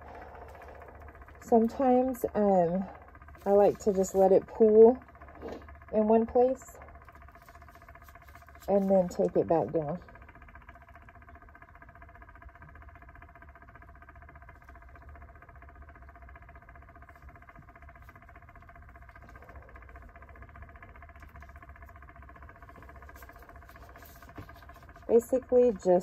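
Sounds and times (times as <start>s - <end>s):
faint steady machine hum: 0.0s - 26.0s.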